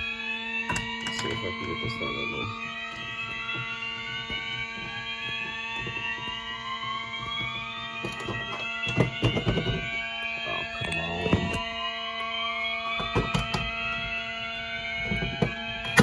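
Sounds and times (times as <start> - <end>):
fire alarm tones: 0.0 - 16.0
rising alarm tones: 0.0 - 16.0.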